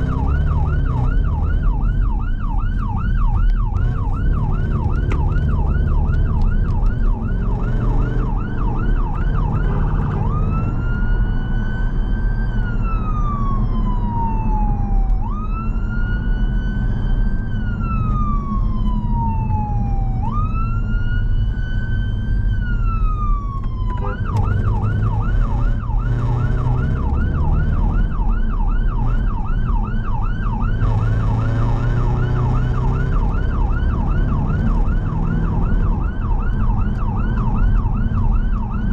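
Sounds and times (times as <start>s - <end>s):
ambulance siren: 0.0s - 38.9s
engine and road noise: 0.0s - 38.9s.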